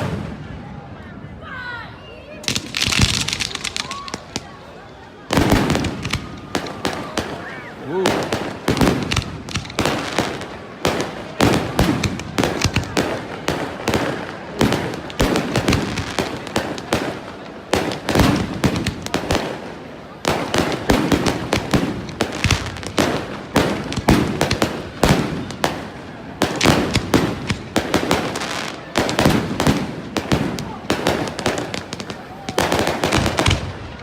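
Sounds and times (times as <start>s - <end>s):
fireworks bangs and crackles: 0.0s - 1.2s, 2.3s - 34.0s.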